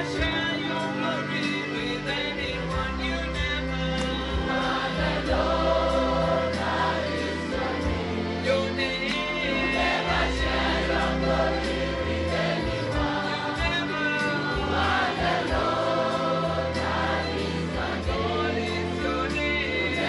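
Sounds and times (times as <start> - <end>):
group singing gospel song: 0.0 - 20.0
instrumental backing with bass: 0.0 - 20.0.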